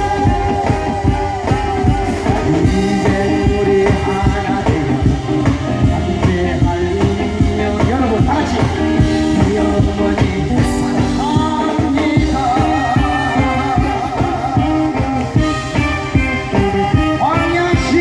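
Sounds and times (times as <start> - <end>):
backing music with steady beat: 0.0 - 18.0
man singing through a pa: 0.0 - 18.0.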